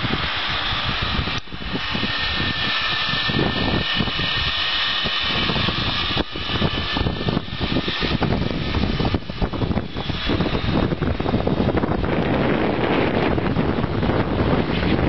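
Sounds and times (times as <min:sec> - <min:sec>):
electric motor whine: 0:00.0 - 0:15.0
rushing noise: 0:00.0 - 0:15.0.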